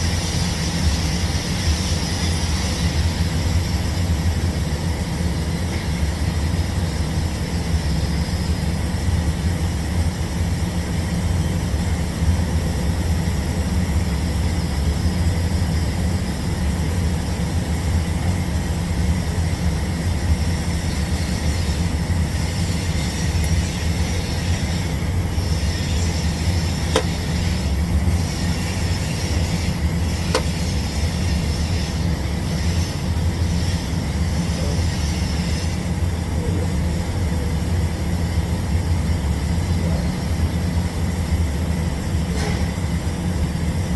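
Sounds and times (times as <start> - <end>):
welding equipment hum and hiss: 0.0 - 43.9.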